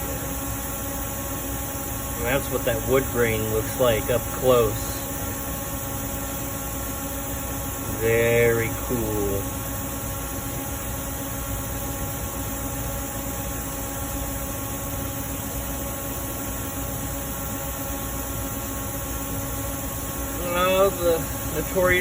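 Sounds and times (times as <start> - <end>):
machinery hum and hiss: 0.0 - 22.0.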